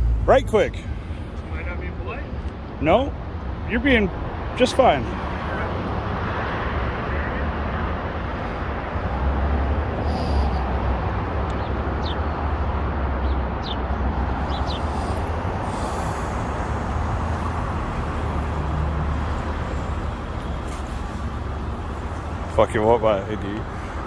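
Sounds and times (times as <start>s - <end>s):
low rumble of road traffic: 0.0s - 24.0s
vehicles idling: 0.0s - 24.0s.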